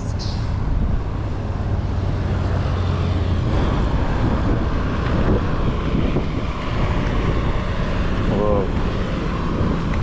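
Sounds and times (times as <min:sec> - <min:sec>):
highway traffic rumble: 0:00.0 - 0:10.0.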